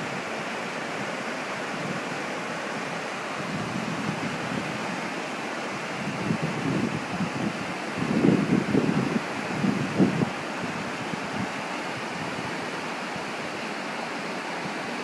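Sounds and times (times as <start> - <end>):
waterfall rushing: 0.0 - 15.0
wind gusting on microphone: 0.0 - 15.0.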